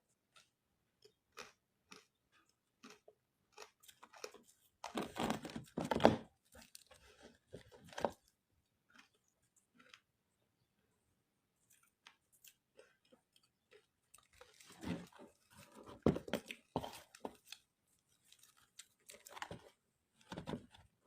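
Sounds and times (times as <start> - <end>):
ice being chewed and crunched: 0.0 - 11.0, 11.6 - 20.4.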